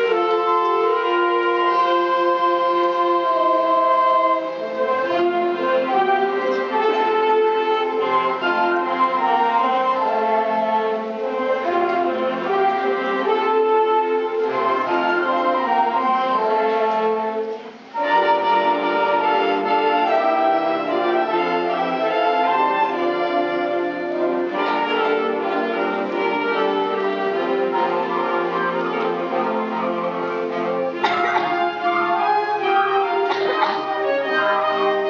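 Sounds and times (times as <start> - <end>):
clarinets playing: 0.0 - 35.0
concert band playing: 0.0 - 35.0.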